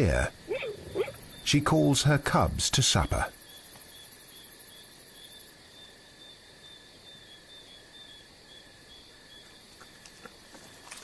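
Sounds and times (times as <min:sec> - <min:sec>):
crickets chirping: 0:00.0 - 0:11.0
rapid high-pitched insect trill: 0:00.0 - 0:11.0.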